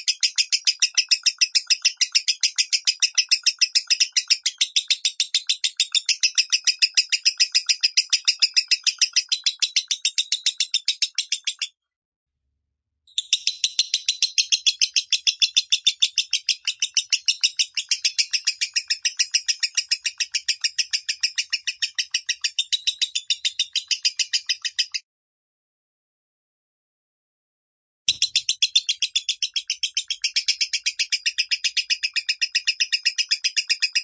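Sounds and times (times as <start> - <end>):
bird chirping rapidly: 0.0 - 11.7, 13.1 - 25.0, 28.1 - 34.0.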